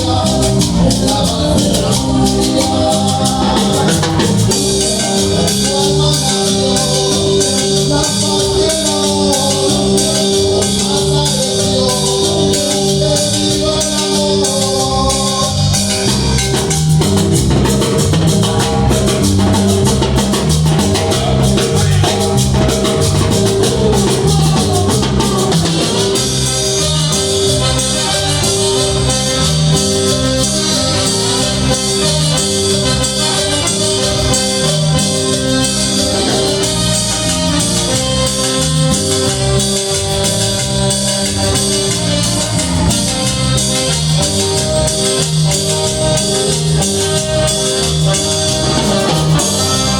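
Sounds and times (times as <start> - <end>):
cumbia music with percussion: 0.0 - 49.9.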